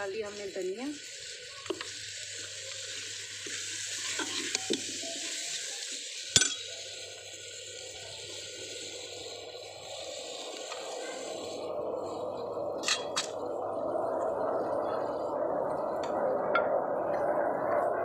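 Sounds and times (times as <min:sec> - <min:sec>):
masala sizzling in a pot: 0:00.0 - 0:16.8.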